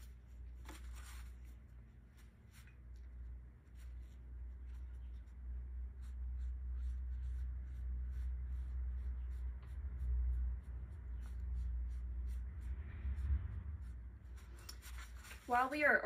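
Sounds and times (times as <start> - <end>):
paintbrush stroking paper: 0.0 - 16.0
steady low rumble: 1.2 - 16.0.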